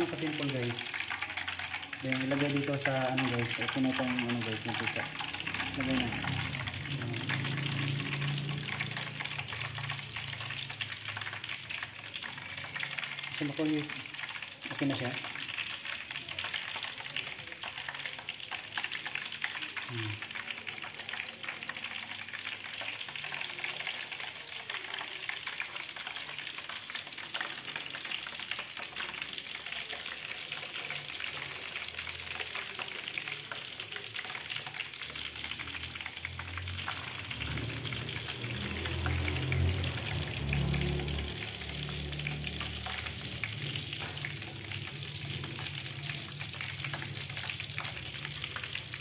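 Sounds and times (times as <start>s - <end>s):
chicken deep-frying in oil: 0.0s - 49.0s.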